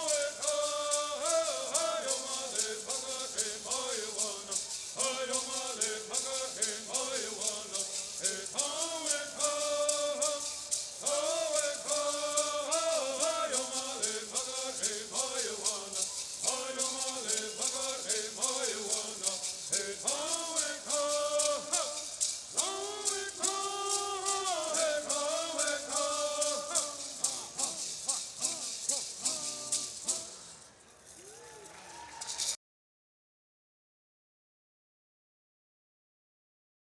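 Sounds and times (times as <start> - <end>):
voices singing in unison: 0.0 - 30.6
gourd rattles shaken: 0.0 - 31.2, 32.1 - 32.6.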